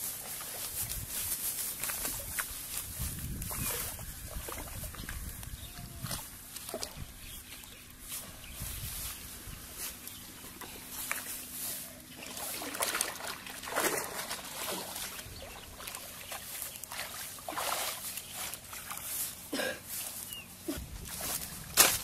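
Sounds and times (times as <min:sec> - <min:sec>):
muddy water splashing: 0:00.0 - 0:07.9, 0:10.5 - 0:20.0, 0:20.7 - 0:22.0
grass rustling: 0:00.0 - 0:22.0.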